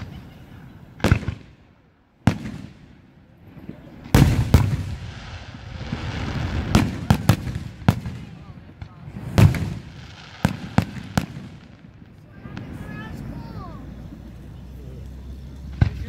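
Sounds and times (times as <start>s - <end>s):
crackling hiss: 2.2s - 16.0s.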